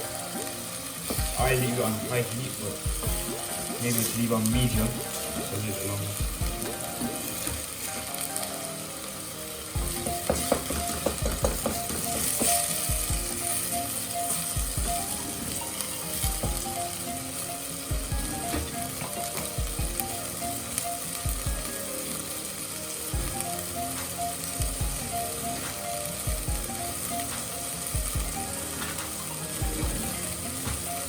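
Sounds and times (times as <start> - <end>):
meat sizzling in oil: 0.0 - 31.0.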